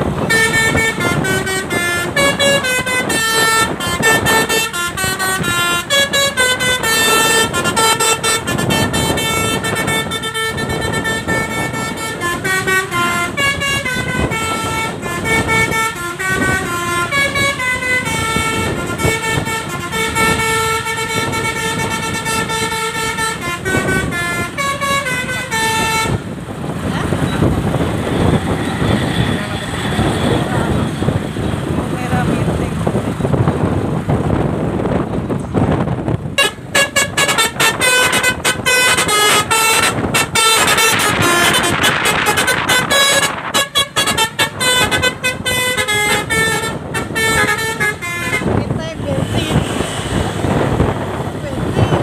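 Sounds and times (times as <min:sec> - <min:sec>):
multi-tone bus horn playing a tune: 0:00.0 - 0:35.0, 0:35.6 - 0:52.0.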